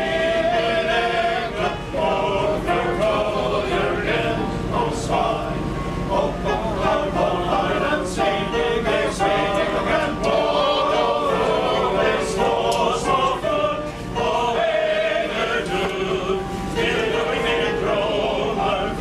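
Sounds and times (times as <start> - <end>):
male chorus singing: 0.0 - 19.0.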